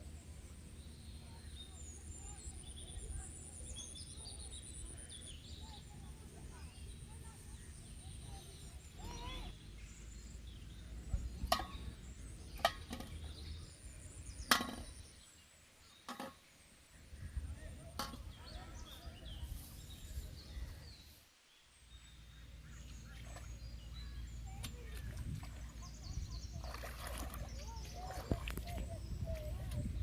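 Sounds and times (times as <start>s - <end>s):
faint bird chirps: 0.1s - 30.0s.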